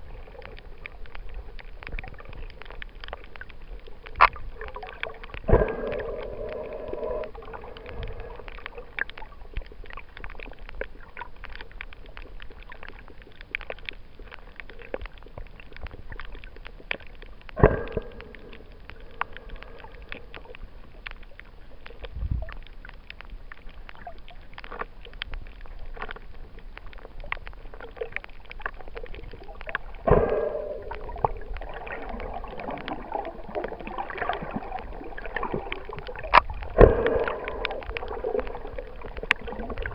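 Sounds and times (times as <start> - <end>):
swells of underwater noise: 0.0 - 24.8, 25.5 - 39.9
underwater crackle of clicks: 0.0 - 39.9.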